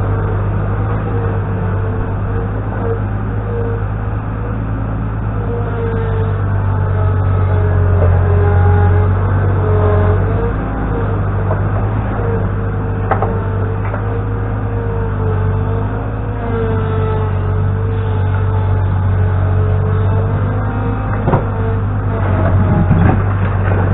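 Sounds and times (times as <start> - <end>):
diesel engine droning with whine: 0.0 - 23.9.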